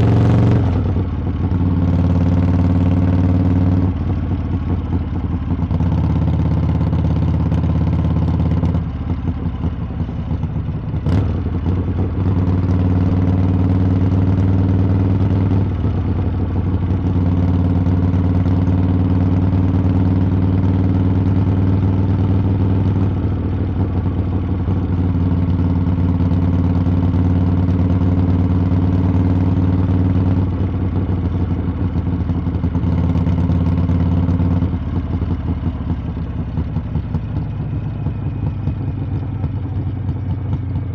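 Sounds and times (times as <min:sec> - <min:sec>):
motorcycle exhaust cruising: 0:00.0 - 0:40.9.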